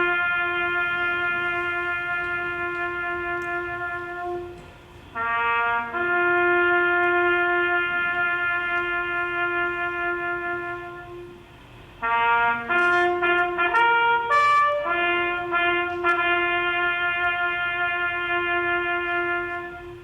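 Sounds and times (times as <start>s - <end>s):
solo trumpet bugle call: 0.0s - 20.0s.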